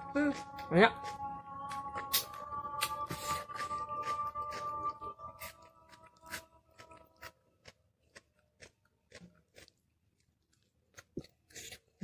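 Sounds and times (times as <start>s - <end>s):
chewing chicken wing: 0.0s - 12.0s.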